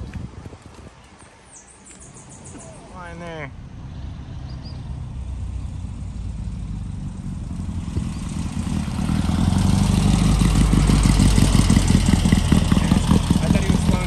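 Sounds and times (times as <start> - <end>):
passing vehicle engine and tyres: 0.0 - 14.0.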